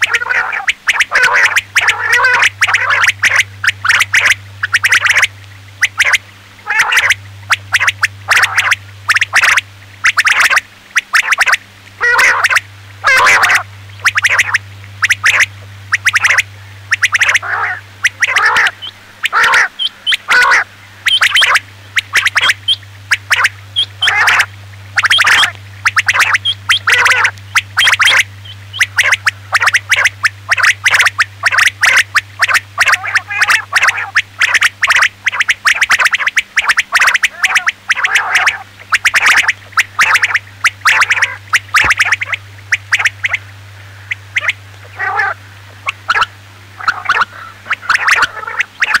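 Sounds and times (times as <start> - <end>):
low hum: 0.0 - 49.0
quail calls: 0.0 - 49.0.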